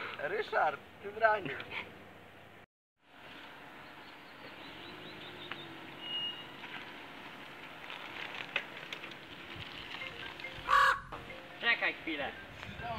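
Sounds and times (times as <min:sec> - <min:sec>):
outdoor background noise: 0:00.0 - 0:12.9.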